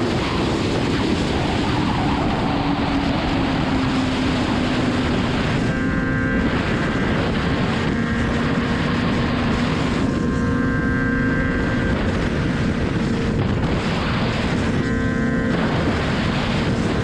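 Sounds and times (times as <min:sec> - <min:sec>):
motorcycle engine cruising: 0:00.0 - 0:17.0
wind rush over microphone: 0:00.0 - 0:17.0.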